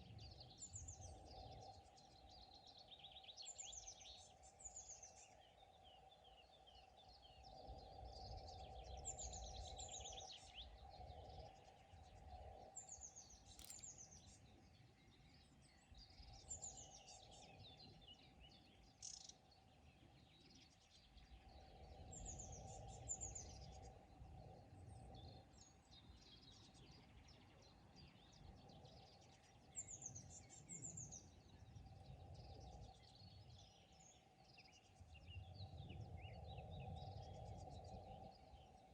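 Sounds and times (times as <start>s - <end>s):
faint birdsong: 0.0s - 38.9s.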